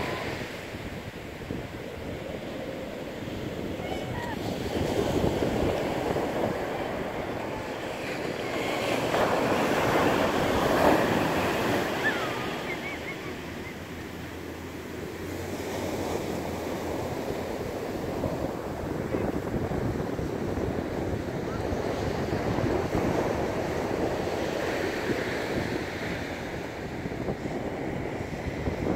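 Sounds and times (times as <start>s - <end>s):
surf breaking on beach: 0.0s - 28.9s.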